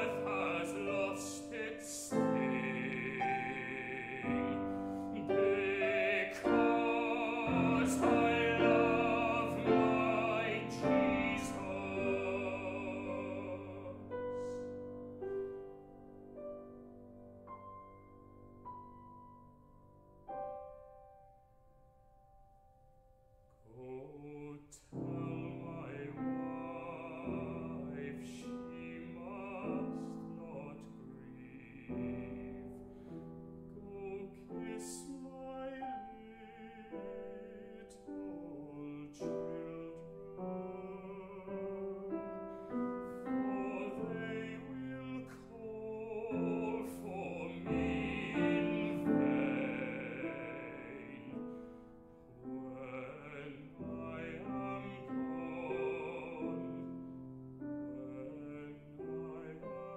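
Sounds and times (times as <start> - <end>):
baritone singing: 0.0 - 14.8, 23.7 - 32.8, 33.8 - 51.7, 52.4 - 57.0, 57.8 - 59.9
grand piano: 0.0 - 59.9.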